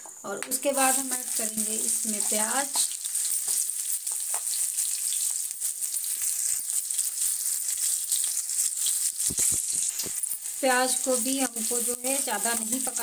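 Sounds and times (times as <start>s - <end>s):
onion sizzling in hot oil: 0.1s - 13.0s.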